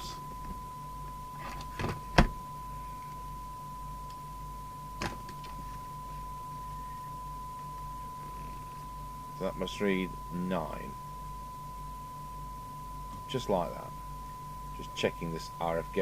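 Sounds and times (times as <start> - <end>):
low mains hum: 0.0 - 16.0
steady test tone: 0.0 - 16.0.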